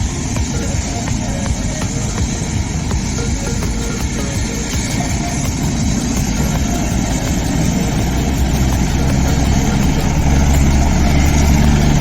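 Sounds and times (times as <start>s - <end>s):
helicopter turbine and rotor drone: 0.0s - 12.0s.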